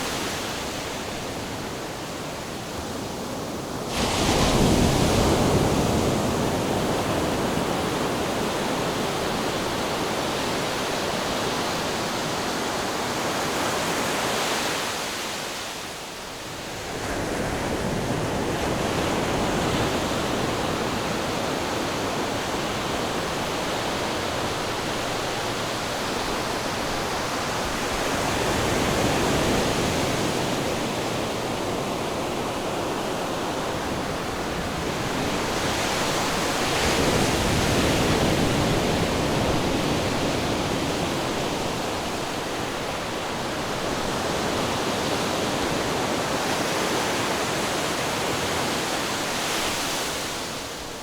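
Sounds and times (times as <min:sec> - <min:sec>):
ocean waves washing ashore: 0:00.0 - 0:51.0.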